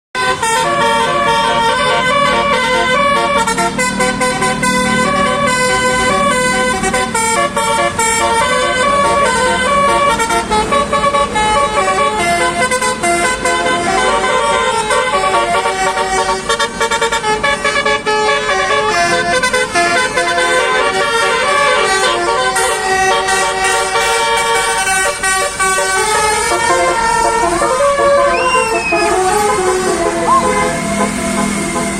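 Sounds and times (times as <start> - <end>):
multi-tone bus horn melody: 0.1 - 31.9.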